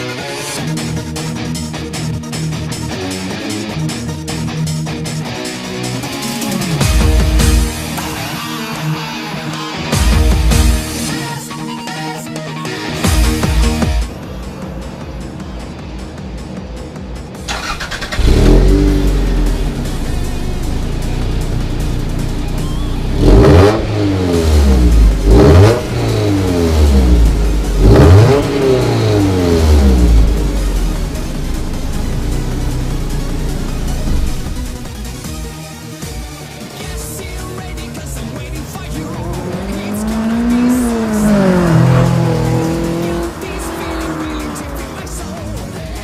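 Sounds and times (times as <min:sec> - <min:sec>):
car engine idling and blipped: 0:00.0 - 0:46.0
music playing: 0:00.0 - 0:46.0.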